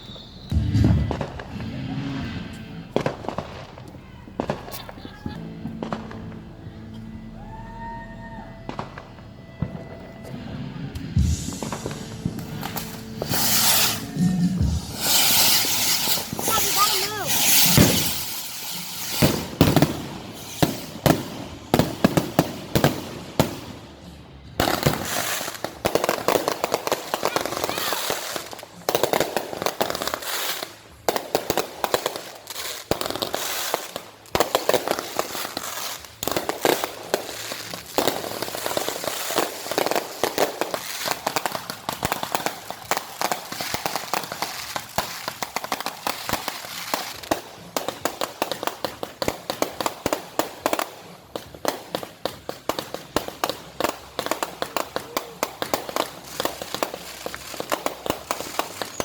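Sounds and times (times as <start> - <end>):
fireworks crackling and popping: 0.0 - 59.0.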